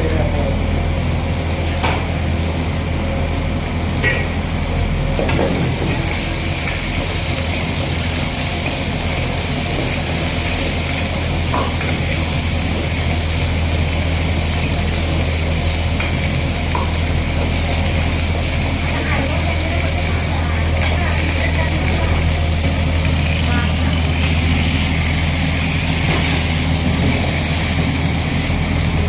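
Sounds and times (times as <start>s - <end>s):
chicken sizzling in hot oil: 0.0s - 29.0s.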